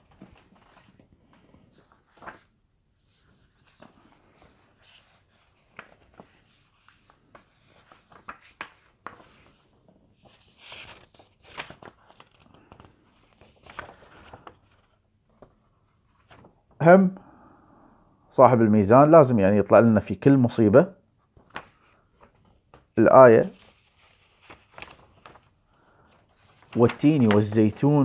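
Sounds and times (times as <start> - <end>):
book pages rustling: 0.0 - 16.6, 21.2 - 28.0.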